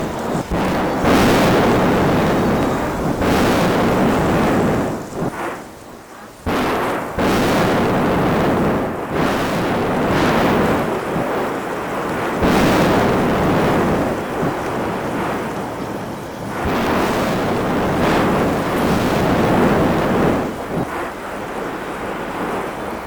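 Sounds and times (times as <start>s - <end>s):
volcano rumbling blasts: 0.0s - 23.0s.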